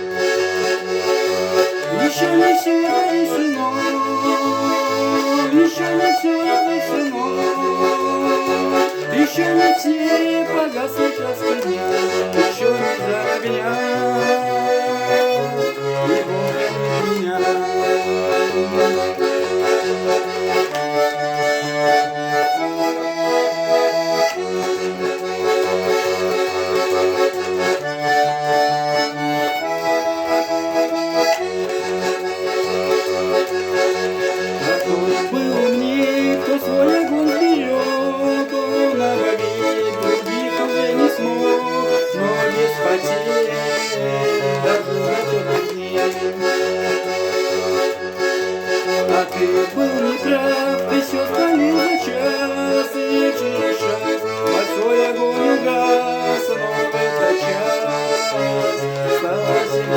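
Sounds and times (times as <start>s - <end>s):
button accordion playing: 0.0s - 59.9s.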